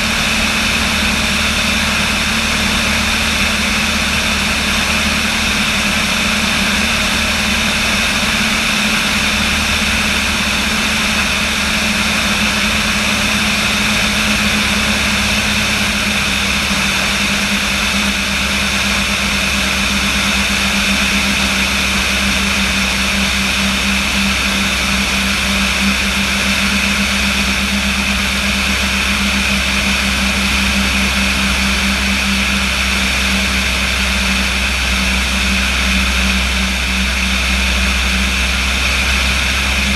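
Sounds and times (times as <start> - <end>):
light airplane engine droning: 0.0 - 39.9.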